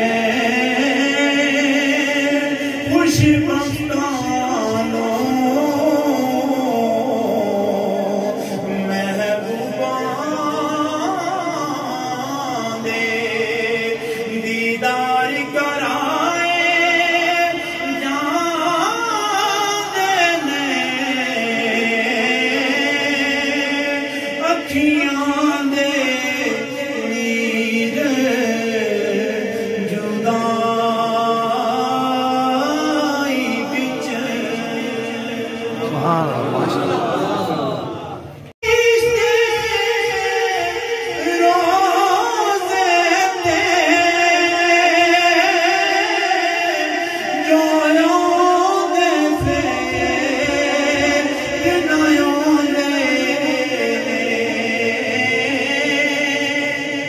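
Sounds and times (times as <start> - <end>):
man chanting through loudspeakers: 0.0 - 37.6, 38.6 - 57.0.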